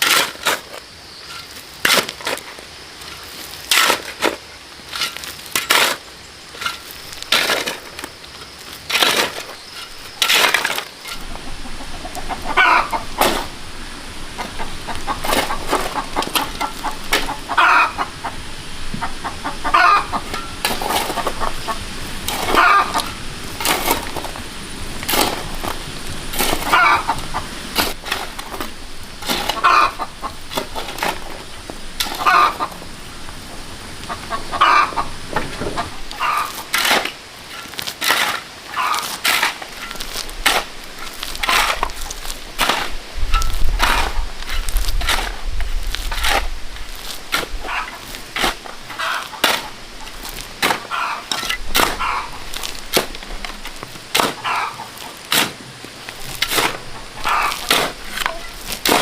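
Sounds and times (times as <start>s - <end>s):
chickens clucking: 9.1s - 45.4s, 47.4s - 55.5s, 56.1s - 59.0s.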